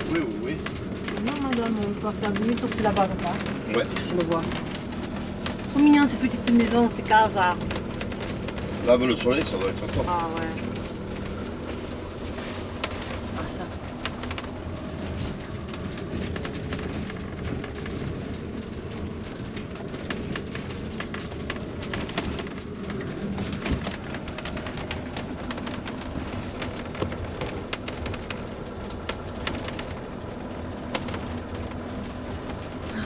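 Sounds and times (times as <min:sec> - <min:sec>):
engine and road hum: 0:00.0 - 0:33.0.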